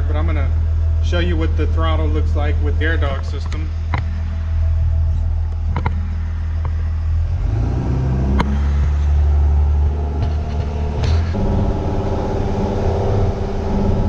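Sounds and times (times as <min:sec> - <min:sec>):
diesel engine accelerating: 0:00.0 - 0:14.0.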